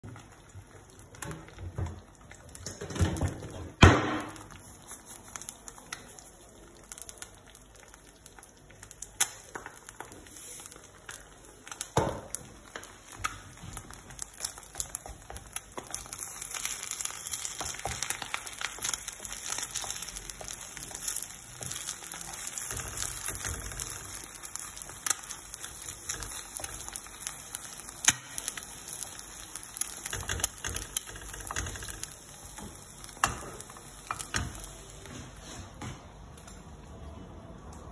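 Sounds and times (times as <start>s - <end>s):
eggs sizzling in oil: 0.0s - 35.5s.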